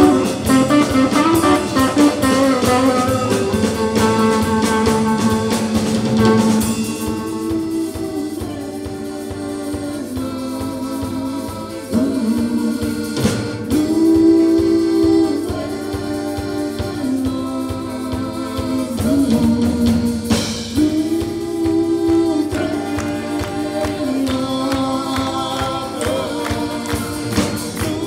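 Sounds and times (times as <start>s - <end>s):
live folk-rock band: 0.0s - 28.0s
voices singing held notes: 0.0s - 28.0s.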